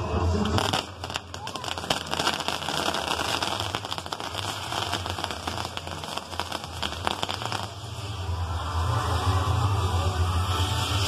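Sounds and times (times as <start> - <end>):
fireworks crackling and fizzing: 0.0 - 9.4.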